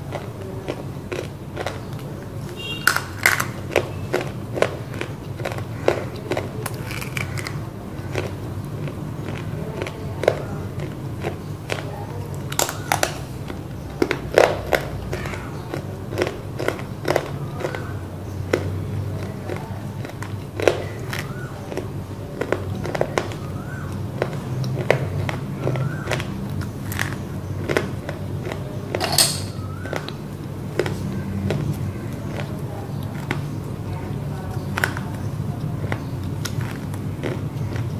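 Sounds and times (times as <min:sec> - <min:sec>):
crunching and chewing clay: 0:00.0 - 0:37.9.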